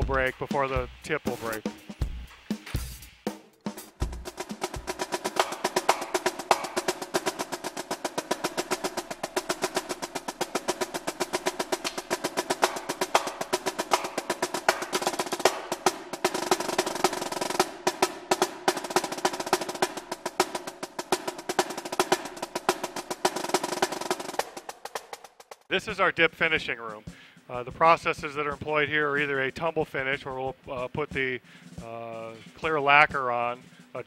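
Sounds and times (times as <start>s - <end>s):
snare drum rolls: 0.0s - 34.0s.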